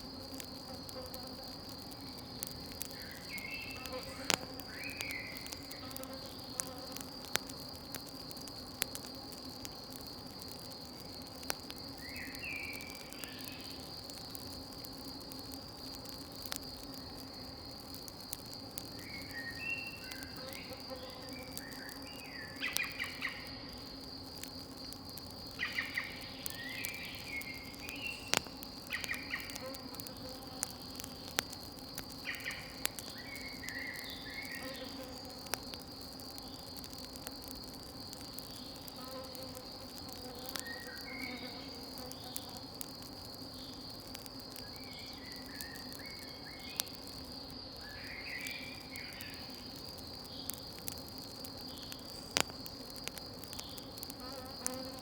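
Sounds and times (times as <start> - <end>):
campfire popping and crackling: 0.0 - 55.0
crickets trilling: 0.0 - 55.0.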